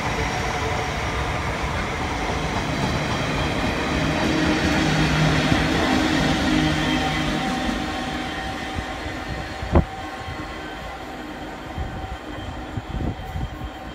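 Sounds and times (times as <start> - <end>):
diesel locomotive passing: 0.0 - 13.9.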